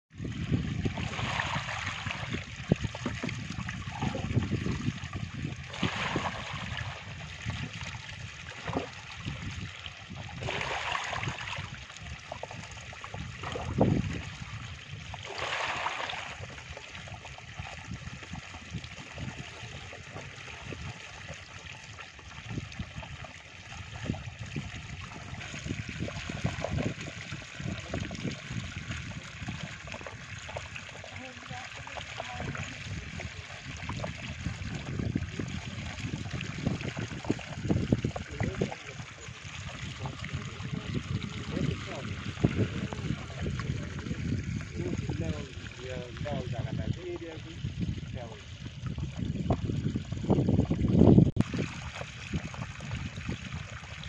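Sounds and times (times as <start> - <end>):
water streaming and gurgling: 0.1 - 54.0
water splashing: 0.2 - 54.0.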